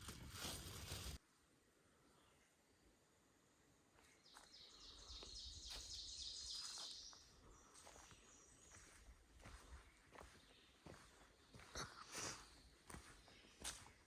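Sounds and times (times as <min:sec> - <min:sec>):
quiet woodland background: 0:00.0 - 0:14.0.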